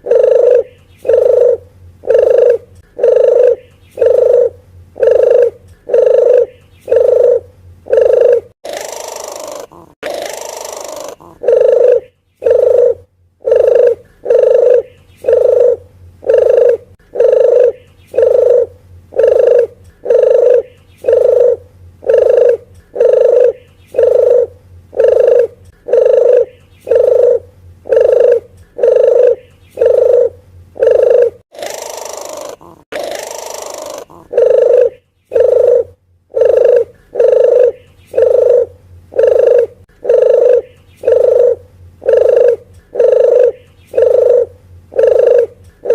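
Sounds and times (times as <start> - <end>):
dove call coos: 0.0 - 45.9
harsh dove call notes: 0.0 - 45.9.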